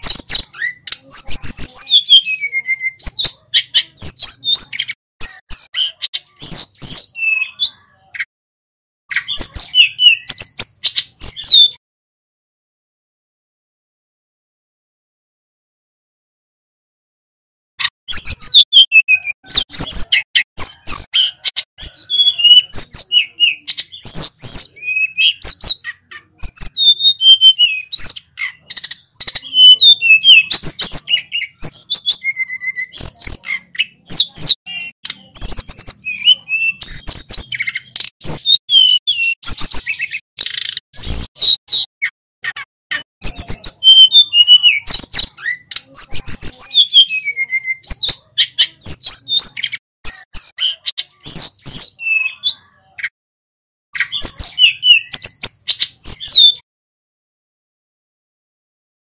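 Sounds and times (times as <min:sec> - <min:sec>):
bird singing whistles and trills: 0:00.0 - 0:08.3, 0:09.1 - 0:11.8, 0:18.1 - 0:53.1, 0:54.0 - 0:56.6.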